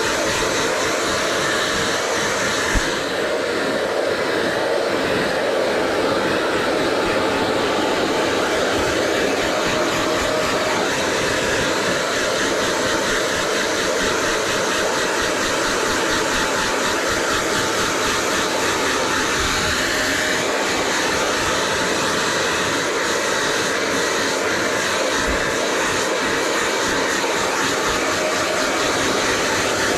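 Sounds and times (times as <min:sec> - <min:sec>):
hair dryer blowing: 0:00.0 - 0:29.9.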